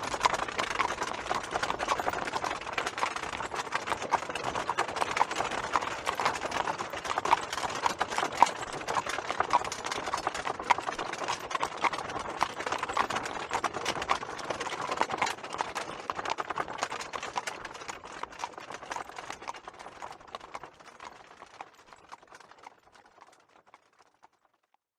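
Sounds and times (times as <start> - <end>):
horse hooves clip-clopping: 0.0 - 24.8.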